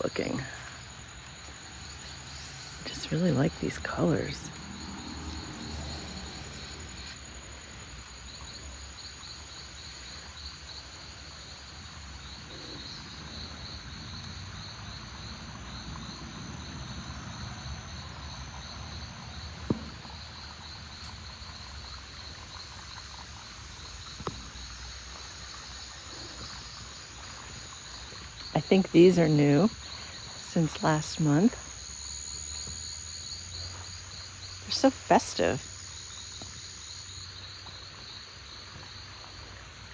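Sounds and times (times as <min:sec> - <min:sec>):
insects buzzing and chirping: 0:00.0 - 0:39.9.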